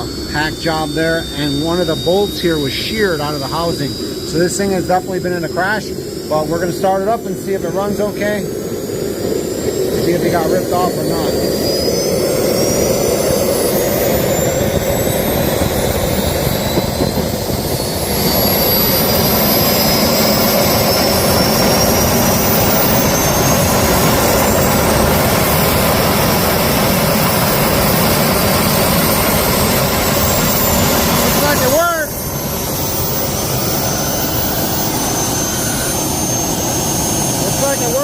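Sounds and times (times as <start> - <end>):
jet engine turbine whine: 0.0 - 38.0.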